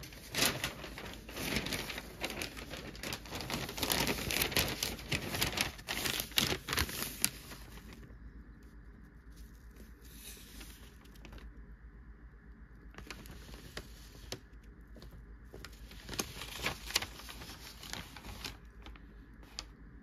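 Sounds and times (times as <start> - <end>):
newspaper pages rustling: 0.0 - 11.6, 12.9 - 19.8.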